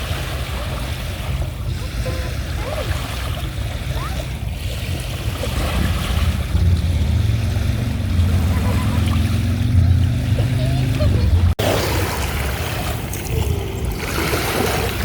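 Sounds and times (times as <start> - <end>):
lapping water: 0.0 - 15.0
wind rumble on microphone: 0.0 - 15.0.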